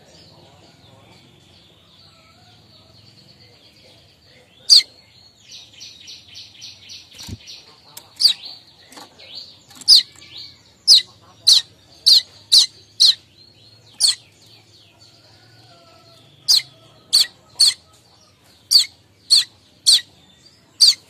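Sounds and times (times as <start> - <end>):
bird singing chattering song: 0.0 - 21.0.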